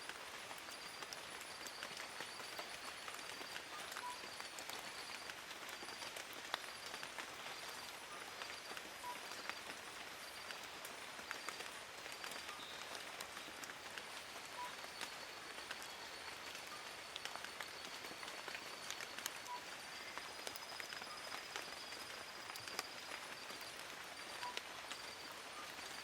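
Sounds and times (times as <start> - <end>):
raindrops pattering on leaves: 0.0 - 26.0.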